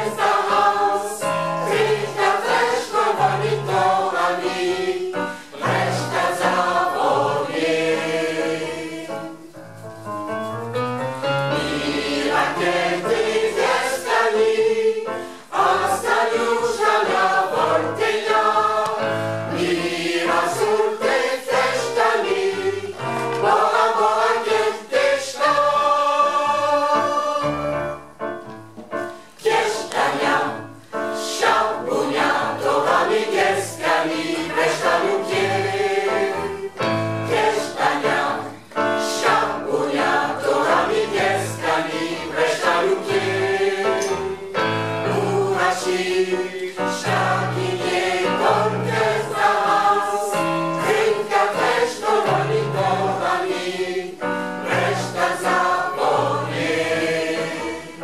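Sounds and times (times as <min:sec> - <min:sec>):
choir singing: 0:00.0 - 0:09.6, 0:11.5 - 0:28.2, 0:29.4 - 0:58.0.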